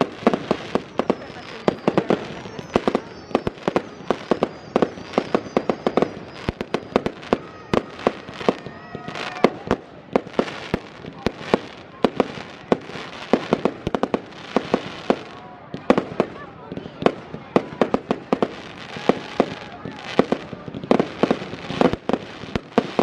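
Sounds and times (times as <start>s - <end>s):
fireworks bangs and crackles: 0.0s - 23.0s
fireworks whistling: 0.0s - 23.0s.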